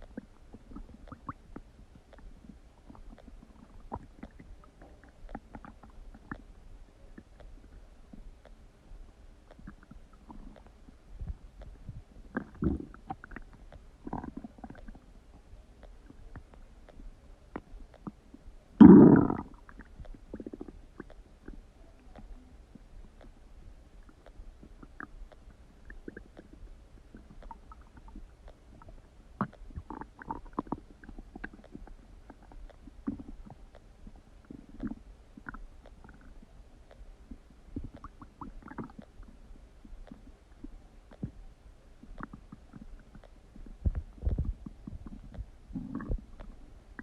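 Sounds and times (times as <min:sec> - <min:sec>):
stomach gurgling and rumbling: 0:00.0 - 0:47.0.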